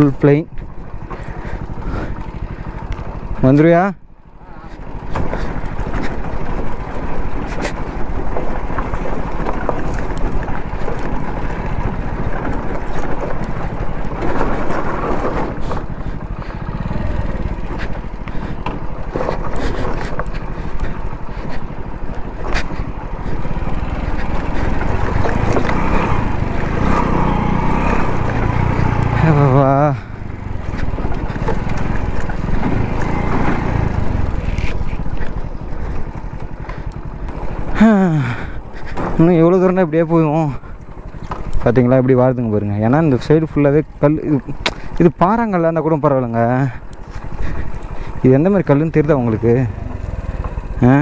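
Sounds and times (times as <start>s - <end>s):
knocks and rattles on stony ground: 0.0s - 51.0s
motorcycle engine running: 0.0s - 51.0s.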